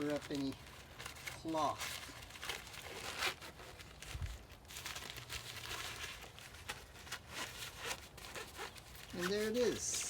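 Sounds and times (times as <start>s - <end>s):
fabric rustling and crinkling: 0.0s - 10.0s.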